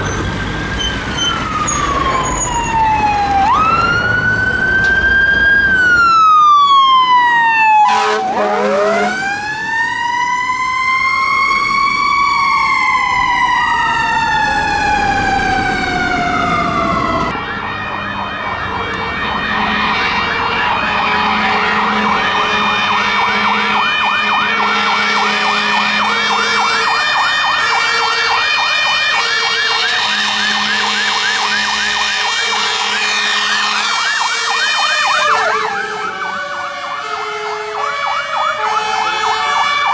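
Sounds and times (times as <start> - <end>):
fire engine siren wailing: 0.0 - 39.9
siren fast yelp: 0.0 - 39.9.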